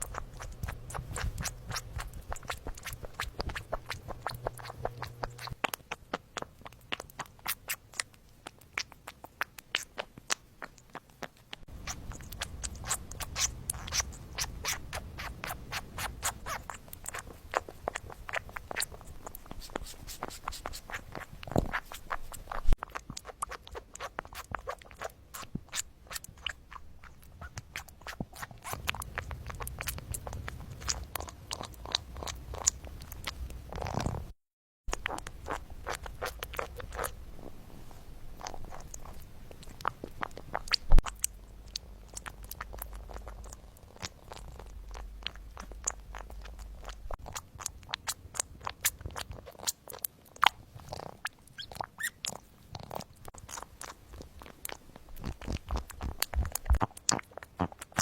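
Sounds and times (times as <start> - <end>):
kittens lapping milk: 0.0 - 34.3, 34.9 - 58.0.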